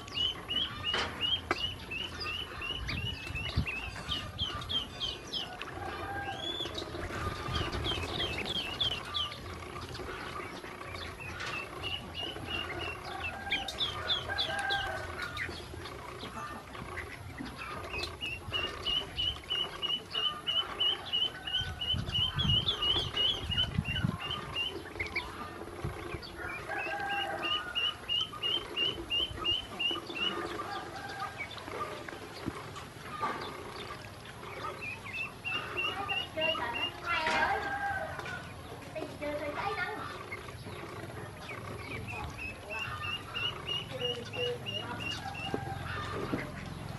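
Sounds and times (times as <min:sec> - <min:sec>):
ducklings peeping: 0:00.0 - 0:46.9.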